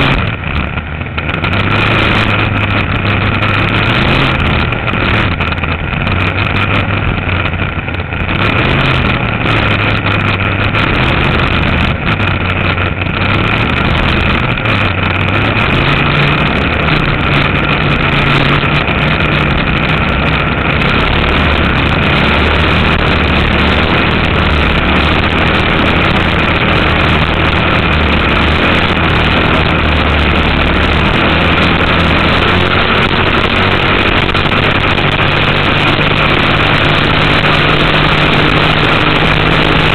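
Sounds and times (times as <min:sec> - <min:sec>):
boat engine running: 0:00.0 - 0:39.9
rush of wind and water: 0:00.0 - 0:39.9.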